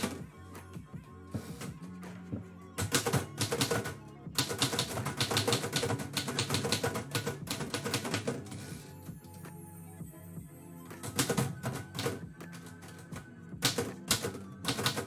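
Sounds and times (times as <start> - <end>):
lo-fi music: 0.0 - 15.0.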